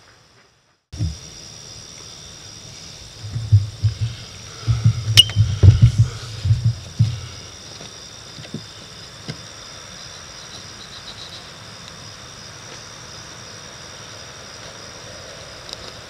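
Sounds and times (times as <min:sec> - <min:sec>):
high insect chirring: 0:01.0 - 0:15.6.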